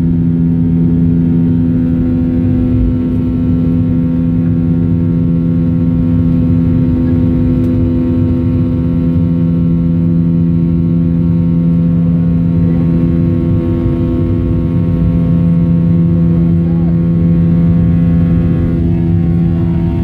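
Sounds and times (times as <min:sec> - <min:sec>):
jet engines droning in cabin: 0:00.0 - 0:20.0.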